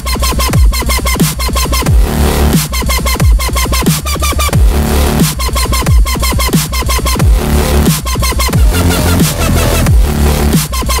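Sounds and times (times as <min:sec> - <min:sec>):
dubstep electronic music: 0:00.0 - 0:11.0.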